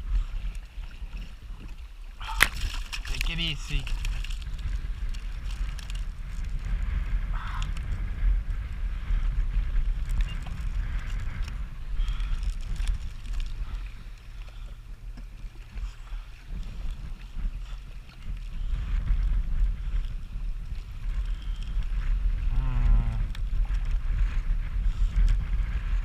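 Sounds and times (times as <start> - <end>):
low steady hum: 0.0 - 26.0
wind buffeting microphone: 0.0 - 26.0.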